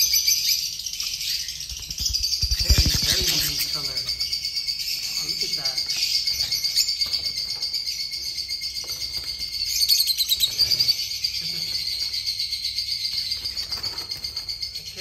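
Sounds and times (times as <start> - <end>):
lovebirds chattering: 0.0 - 15.0.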